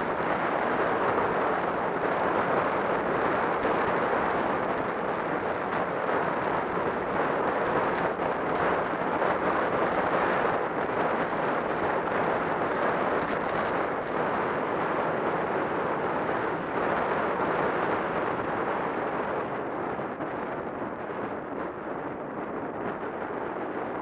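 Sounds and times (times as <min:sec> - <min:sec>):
wind rushing over camera: 0:00.0 - 0:24.0.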